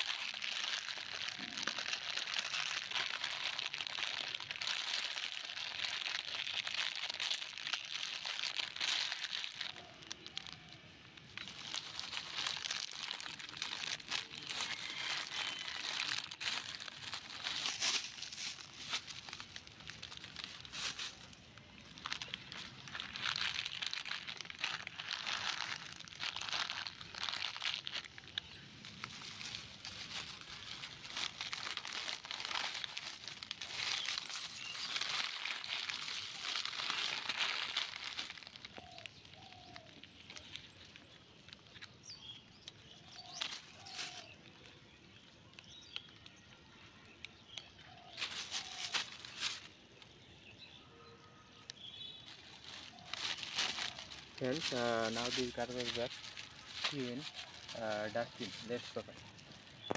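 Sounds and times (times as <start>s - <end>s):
plastic bag crinkling: 0.0s - 46.4s, 47.3s - 50.2s, 51.7s - 59.9s.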